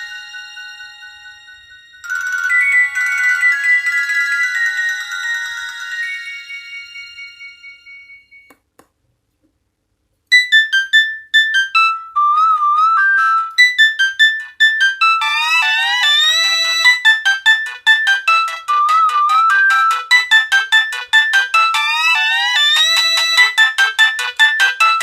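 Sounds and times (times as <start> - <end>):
synthesized phone ringtone: 0.0 - 8.5, 10.3 - 25.0.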